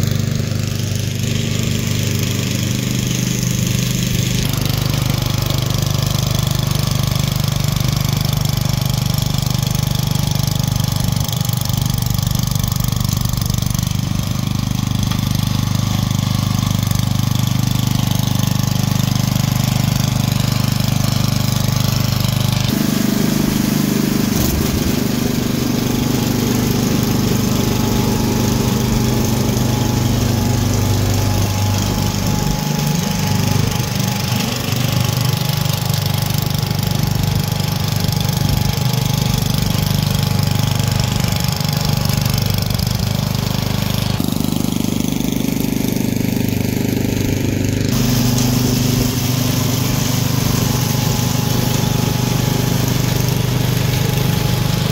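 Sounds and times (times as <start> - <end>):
snowblower engine running: 0.0 - 54.9.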